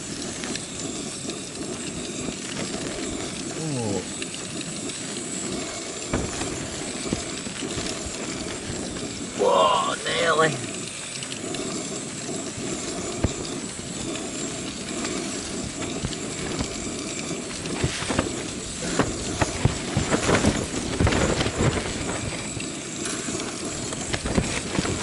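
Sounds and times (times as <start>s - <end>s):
camping stove burner hissing: 0.0s - 25.0s.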